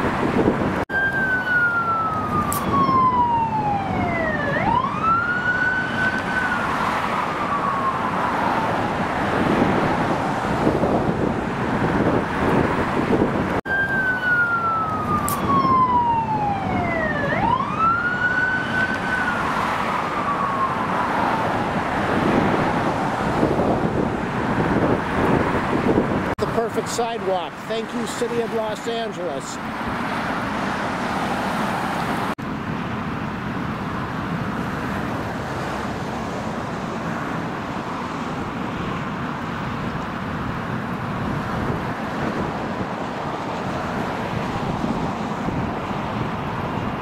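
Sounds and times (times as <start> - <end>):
emergency vehicle siren wailing: 0.0 - 26.4, 33.5 - 47.0
road traffic noise: 0.0 - 47.0.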